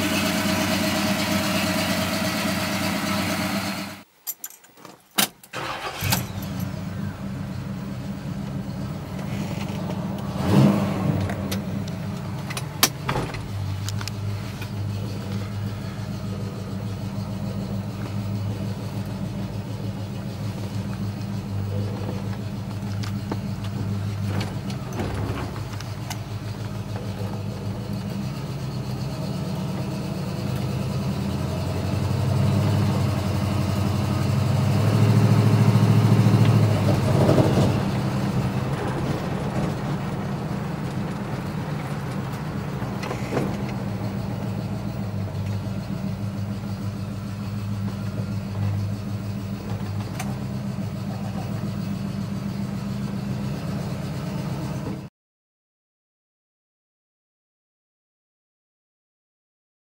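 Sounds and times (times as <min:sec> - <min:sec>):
car engine running: 0:00.0 - 0:04.0, 0:05.6 - 0:55.0.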